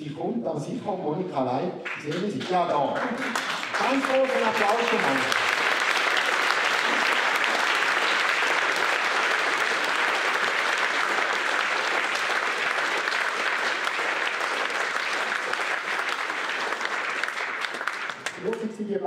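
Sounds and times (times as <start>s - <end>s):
audience applauding: 1.8s - 19.0s.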